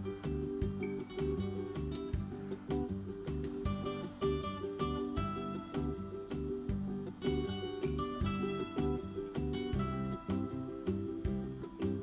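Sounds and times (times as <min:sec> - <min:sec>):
light instrumental music: 0:00.0 - 0:12.0.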